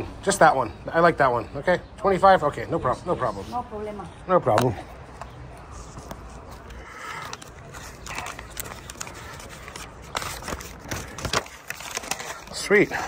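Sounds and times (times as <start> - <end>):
quiet street background: 0.0 - 13.0.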